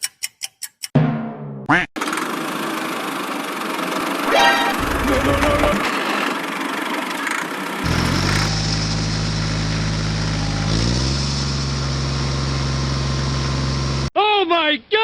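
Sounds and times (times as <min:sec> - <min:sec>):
engine humming: 0:01.7 - 0:14.1.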